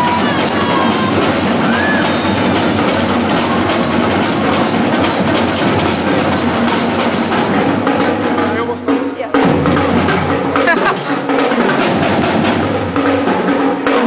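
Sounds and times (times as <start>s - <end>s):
marching drumline playing: 0.0s - 14.0s.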